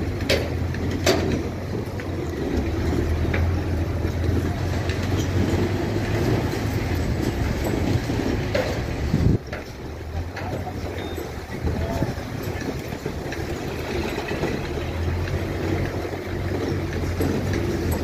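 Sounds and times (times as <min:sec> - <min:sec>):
truck engine rumbling at low revs: 0:00.0 - 0:18.0.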